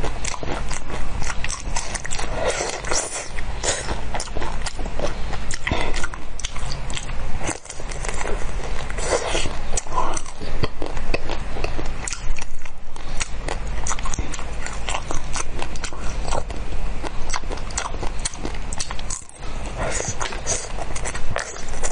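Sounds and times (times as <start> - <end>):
crunchy chewing: 0.0 - 21.9.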